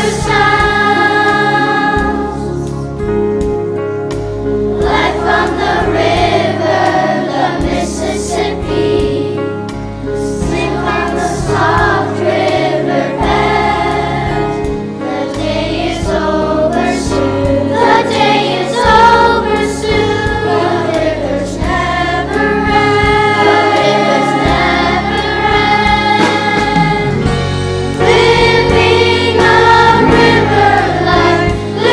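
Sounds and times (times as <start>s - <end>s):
group singing choir-like: 0.0s - 2.8s, 4.7s - 9.4s, 10.2s - 31.9s
instrumental backing with bass line: 0.0s - 31.9s.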